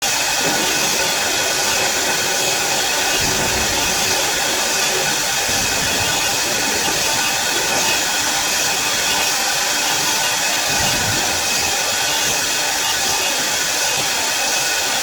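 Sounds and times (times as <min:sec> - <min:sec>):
wood lathe running: 0:00.0 - 0:15.0.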